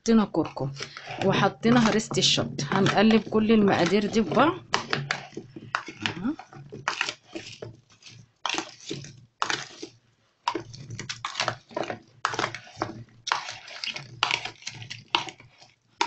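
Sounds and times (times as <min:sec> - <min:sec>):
spoon stirring onions in plastic bowl: 0:00.0 - 0:16.0.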